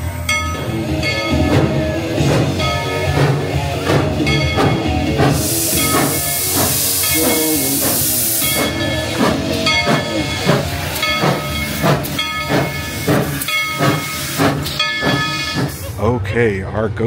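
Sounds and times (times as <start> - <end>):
steam locomotive hissing: 0.0 - 16.2
locomotive repeating beat: 0.7 - 15.9.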